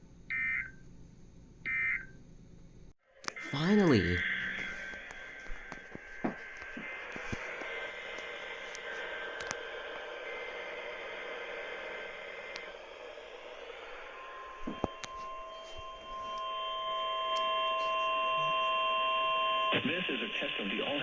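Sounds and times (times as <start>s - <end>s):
radio static hiss: 3.3s - 21.0s.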